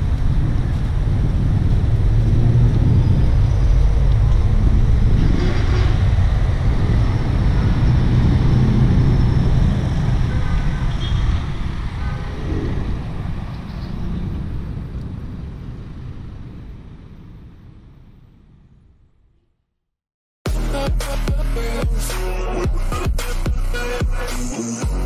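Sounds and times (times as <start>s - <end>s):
city traffic rumble: 0.0s - 19.4s, 20.5s - 25.0s.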